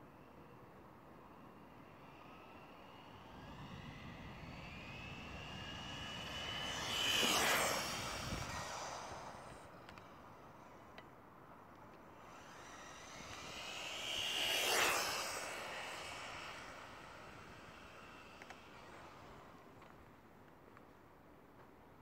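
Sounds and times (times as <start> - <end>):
rc car motor whining past: 0.0 - 11.1, 11.9 - 20.2.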